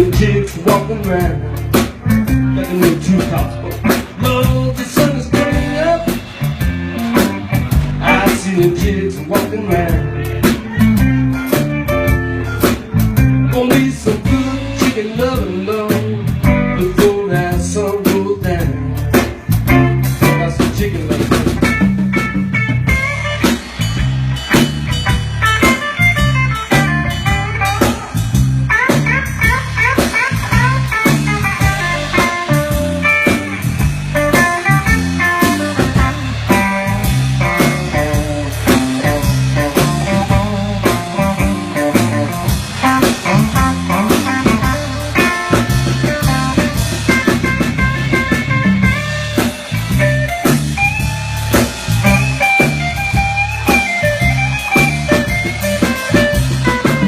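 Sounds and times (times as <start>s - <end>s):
blues band playing: 0.0s - 57.0s
lead guitar: 0.0s - 57.0s.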